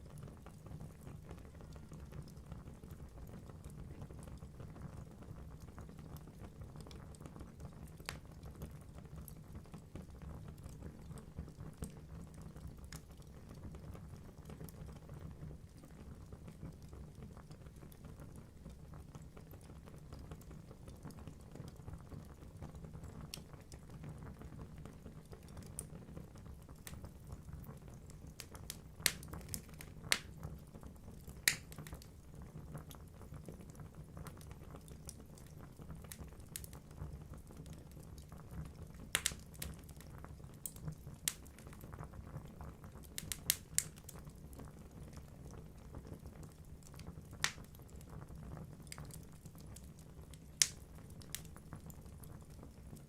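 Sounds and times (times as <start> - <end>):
fire crackling and popping: 0.0 - 53.0
low rumble of flames: 0.0 - 53.0.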